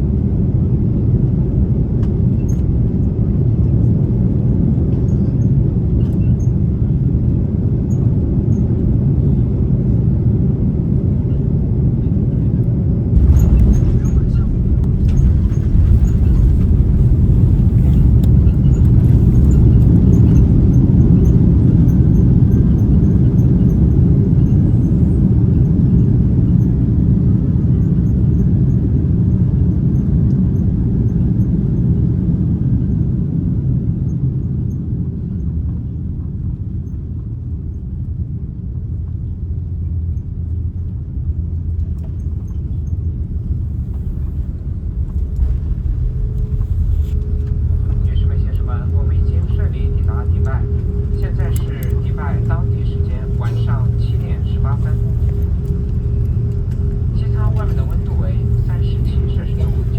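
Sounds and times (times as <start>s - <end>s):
jet landing rumble from cabin: 0.0s - 59.9s.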